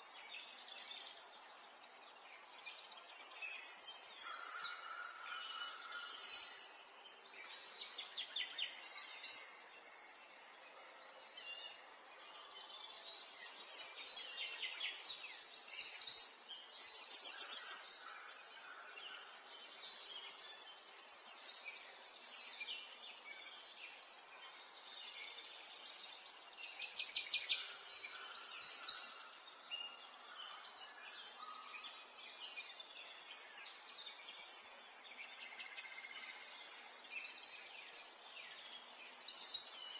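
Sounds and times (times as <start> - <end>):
faint outdoor background noise: 0.0 - 39.9
songbirds chirping and trilling: 0.0 - 39.9.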